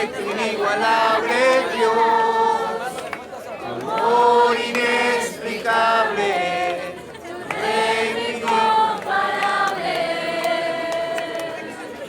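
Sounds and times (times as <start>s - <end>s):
group singing held notes: 0.0s - 12.0s.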